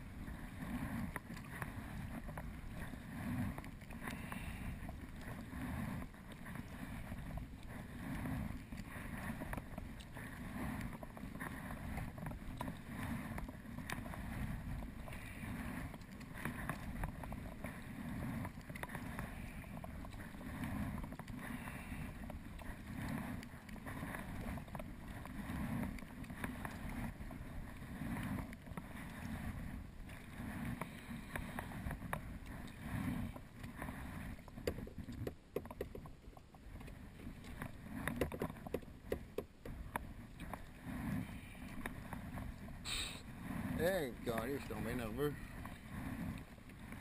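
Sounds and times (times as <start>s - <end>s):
paddle splashing water: 0.0s - 47.0s.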